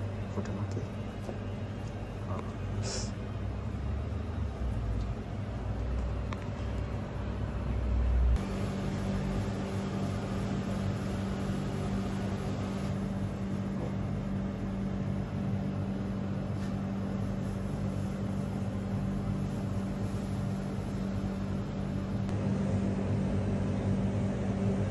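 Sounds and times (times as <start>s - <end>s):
mechanical hum: 0.0s - 24.9s.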